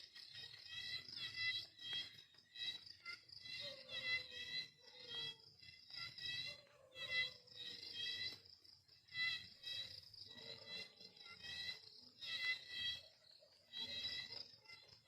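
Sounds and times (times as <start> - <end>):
high-pitched animal chirping: 0.6 - 8.4, 9.1 - 15.0.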